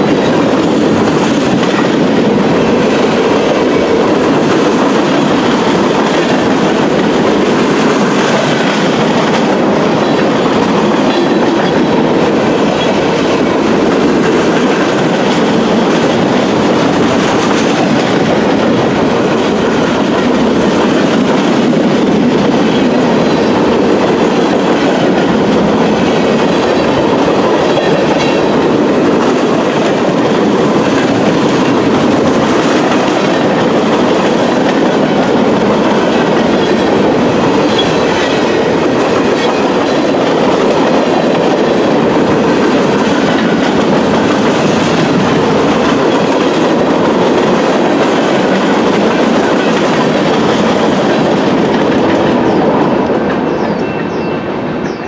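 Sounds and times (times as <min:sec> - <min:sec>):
steel wheels on rails: 0:00.0 - 0:55.0.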